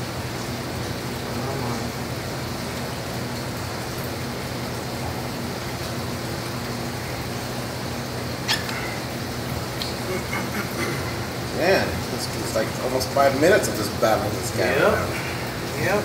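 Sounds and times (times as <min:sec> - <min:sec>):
low machine hum with hiss: 0:00.0 - 0:16.0.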